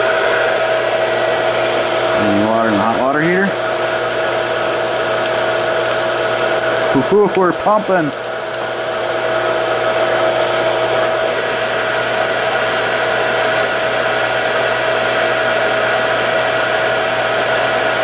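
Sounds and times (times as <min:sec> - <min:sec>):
water pump motor whining: 0:00.0 - 0:18.0.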